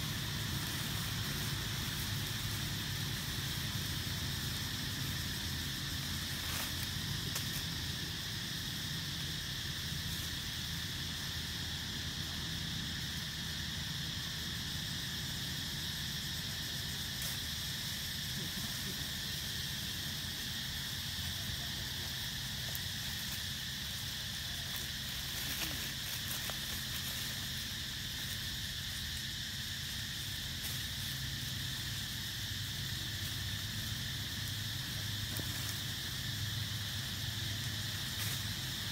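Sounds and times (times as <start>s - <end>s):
insect chorus buzzing: 0.0s - 38.9s.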